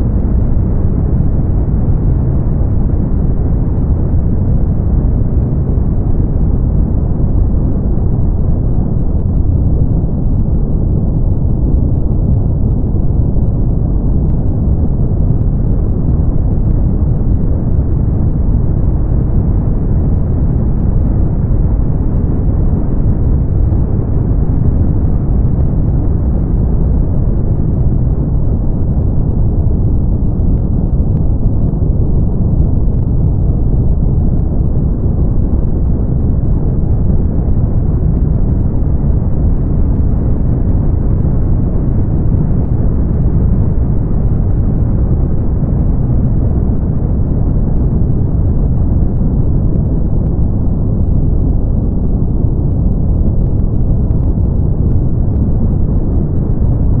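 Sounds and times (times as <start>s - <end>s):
brown noise: 0.0s - 57.0s.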